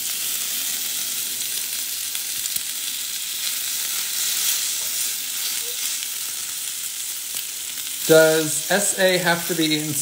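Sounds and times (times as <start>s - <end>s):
meatballs sizzling in hot oil: 0.0s - 10.0s.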